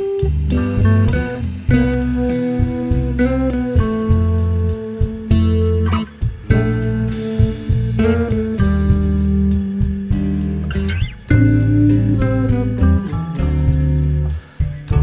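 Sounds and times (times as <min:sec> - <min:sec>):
guitar-led music with bass: 0:00.0 - 0:15.0.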